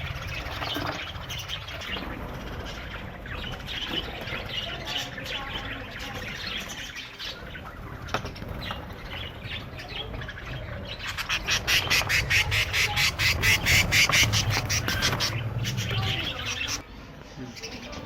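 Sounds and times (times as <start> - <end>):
budgerigars chattering and chirping: 0.0 - 18.0.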